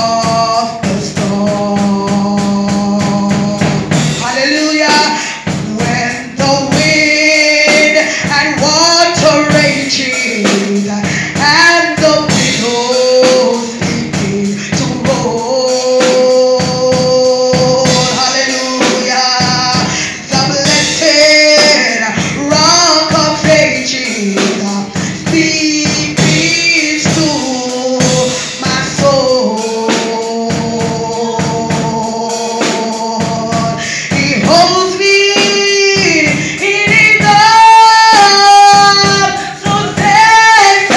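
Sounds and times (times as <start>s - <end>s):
gospel singing through microphone: 0.0s - 40.9s
steady percussive beat: 0.0s - 40.9s.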